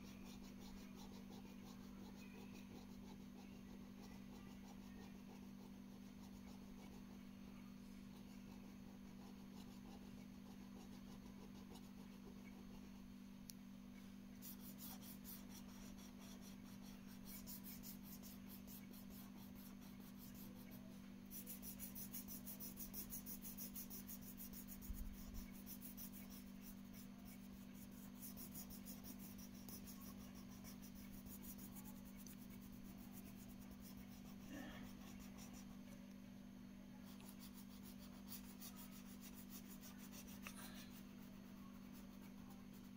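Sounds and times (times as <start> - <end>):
pen scratching on paper: 0.0 - 7.1, 8.1 - 12.9, 14.4 - 35.8, 37.0 - 42.9
steady low hum: 0.0 - 42.9.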